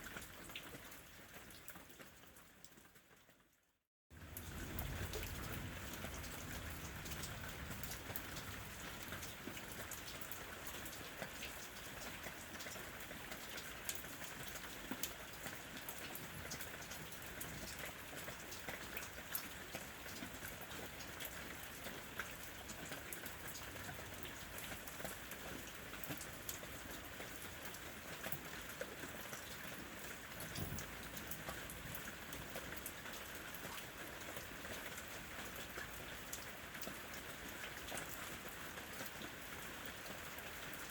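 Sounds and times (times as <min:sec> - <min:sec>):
raindrops ticking on a surface: 0:00.0 - 0:40.9
hiss of falling rain: 0:04.2 - 0:40.9.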